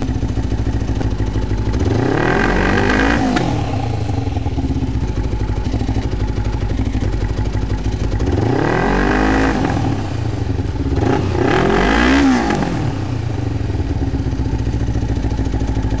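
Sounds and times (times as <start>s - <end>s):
motorcycle engine idling: 0.0s - 16.0s
motorcycle engine revving: 0.0s - 16.0s.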